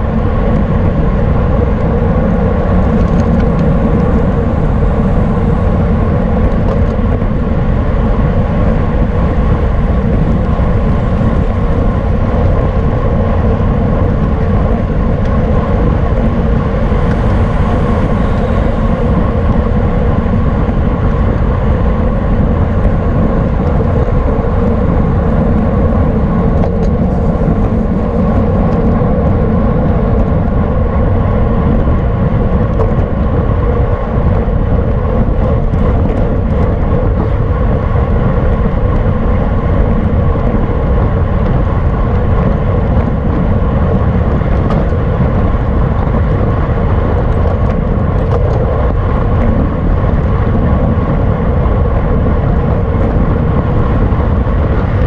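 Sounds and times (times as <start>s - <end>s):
wind rush over microphone: 0.0s - 55.0s.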